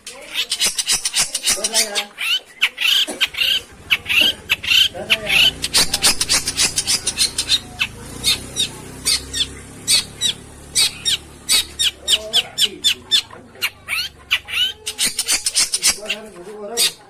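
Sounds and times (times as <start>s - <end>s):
shrike calling harsh notes: 0.3s - 16.3s.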